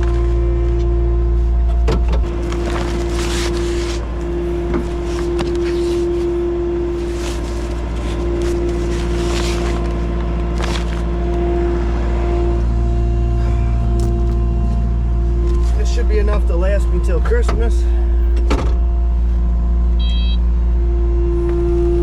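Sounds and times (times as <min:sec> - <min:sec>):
loader engine drone: 0:00.0 - 0:22.0.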